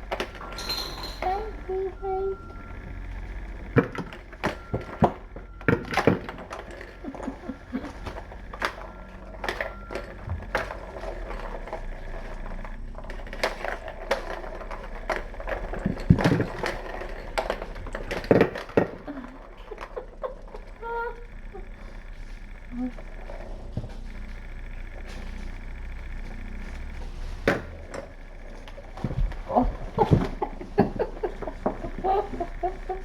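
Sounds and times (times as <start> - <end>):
kittens playing with toys: 0.0 - 33.0.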